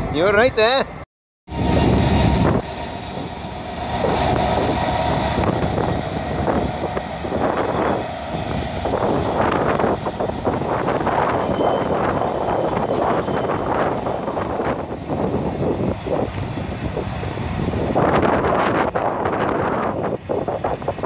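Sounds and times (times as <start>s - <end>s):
diesel locomotive engine: 0.0s - 21.0s
engine whine: 1.5s - 21.0s.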